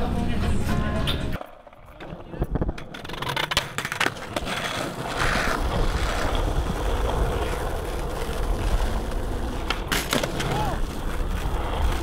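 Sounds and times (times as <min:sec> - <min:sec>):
skateboard wheels rolling on asphalt: 0:00.0 - 0:12.0.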